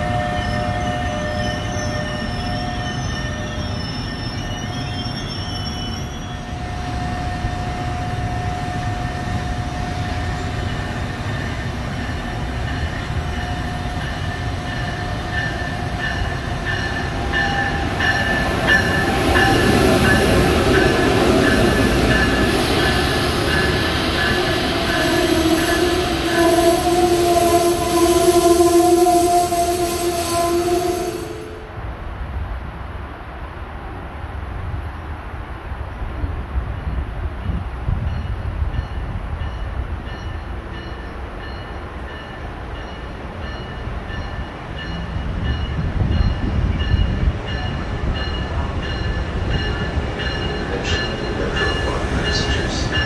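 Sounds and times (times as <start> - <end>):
electric train passing: 0.0 - 53.0.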